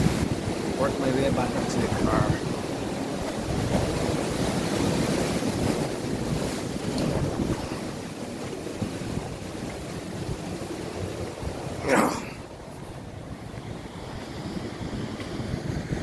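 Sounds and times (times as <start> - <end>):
surf breaking on rocks: 0.0 - 15.6
wind buffeting microphone: 0.0 - 16.0.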